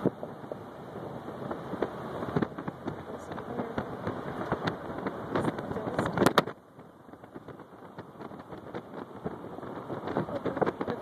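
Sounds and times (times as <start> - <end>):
road noise inside a car: 0.0 - 11.0.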